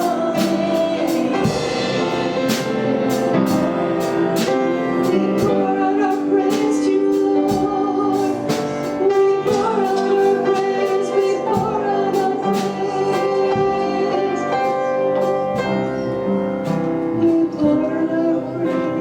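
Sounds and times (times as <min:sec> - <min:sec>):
people singing: 0:00.0 - 0:16.4, 0:17.1 - 0:19.0
steady drum beat: 0:00.0 - 0:18.1
keyboard chords: 0:00.0 - 0:19.0.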